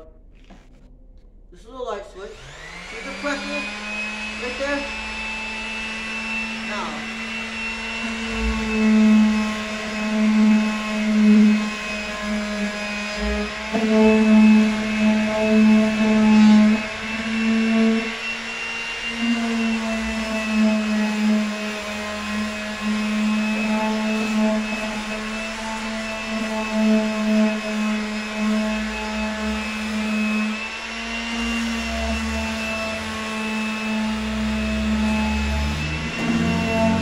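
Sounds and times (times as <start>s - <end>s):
electric sander on wood: 2.1s - 37.0s.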